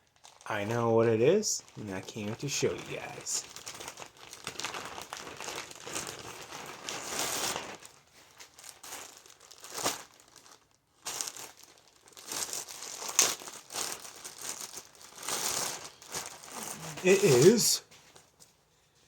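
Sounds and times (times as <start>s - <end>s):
packaging crinkling and tearing: 0.0s - 0.9s, 1.6s - 17.7s.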